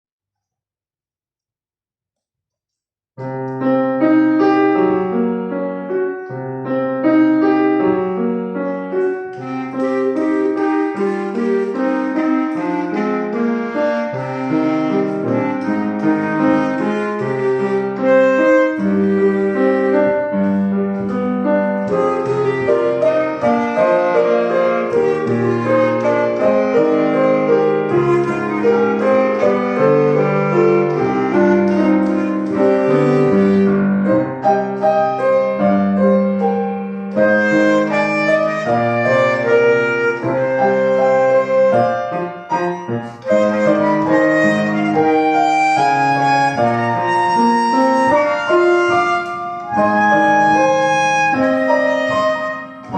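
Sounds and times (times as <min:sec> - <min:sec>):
piano accompaniment: 0:03.2 - 0:52.9
solo wind instrument melody: 0:03.2 - 0:52.9.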